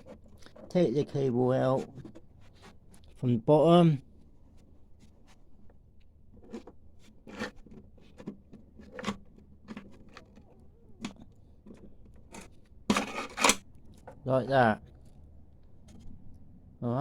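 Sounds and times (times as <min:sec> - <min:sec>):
small clicks and scrapes: 0:00.0 - 0:00.8, 0:01.6 - 0:03.2, 0:04.2 - 0:14.2, 0:14.8 - 0:16.5.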